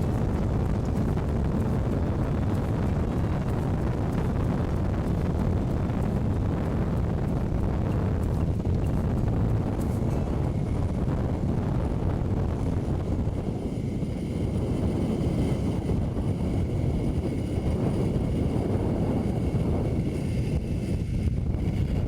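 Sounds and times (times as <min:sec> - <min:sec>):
pulleys running on cable: 0:00.0 - 0:22.0
wind rushing over microphone: 0:00.0 - 0:22.0.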